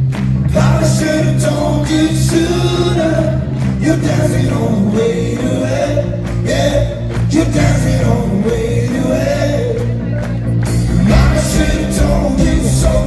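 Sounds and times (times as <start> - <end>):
drums: 0.0 - 13.0
electric guitars: 0.0 - 13.0
keyboards: 0.0 - 13.0.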